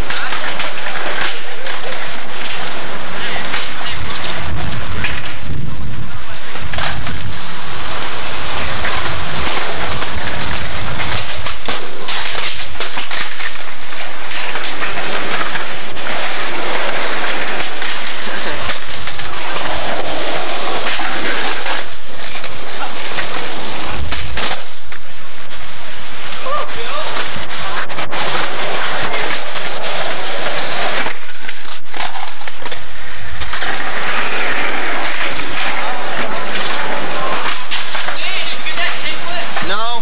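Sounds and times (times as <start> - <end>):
skateboard clacks and landings: 0.0 - 5.6, 6.4 - 25.1, 27.1 - 39.6
skateboards rolling on concrete: 0.0 - 40.0.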